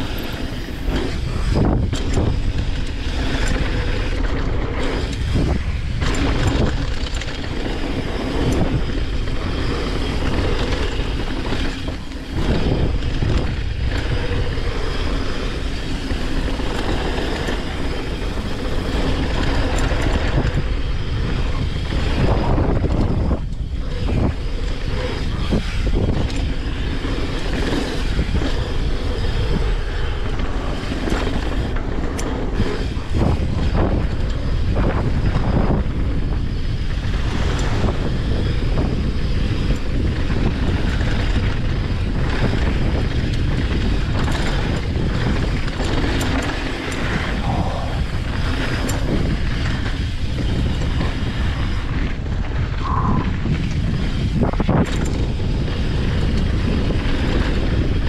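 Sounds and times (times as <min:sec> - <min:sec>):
wind buffeting microphone: 0:00.0 - 0:58.0
bike clattering over bumps: 0:00.1 - 0:58.0.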